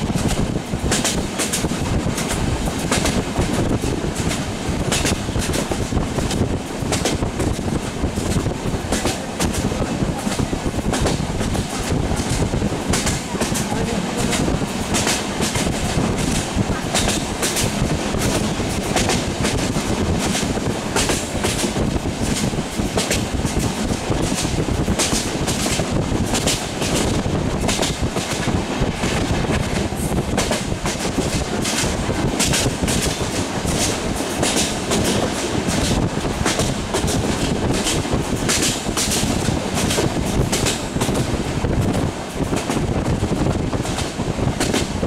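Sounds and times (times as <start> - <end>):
train wheels rumbling on track: 0.0 - 45.0
wheels clacking over rail joints: 0.0 - 45.0.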